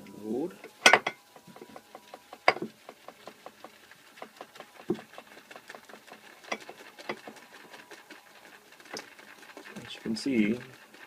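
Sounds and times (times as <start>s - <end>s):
shaving brush swishing on soap: 2.0s - 11.0s.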